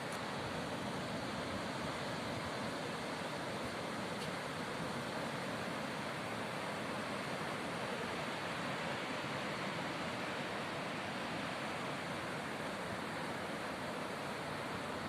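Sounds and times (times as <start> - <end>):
sea surf washing on shore: 0.0 - 15.0.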